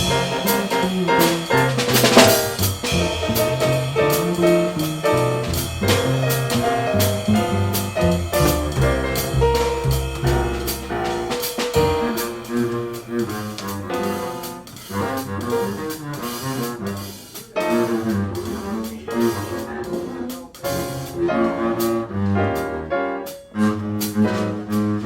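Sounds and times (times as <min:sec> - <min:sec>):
light cymbal strokes: 0:00.0 - 0:21.2
double bass playing jazz: 0:00.0 - 0:25.0.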